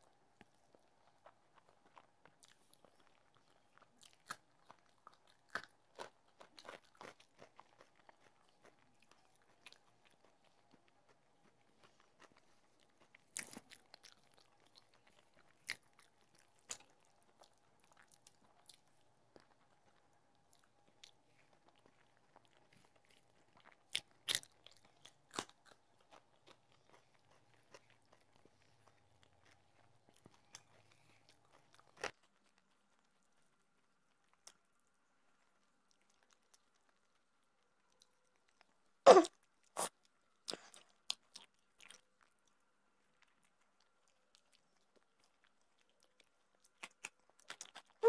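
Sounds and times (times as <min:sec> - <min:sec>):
person chewing and crunching food: 0:00.0 - 0:48.0.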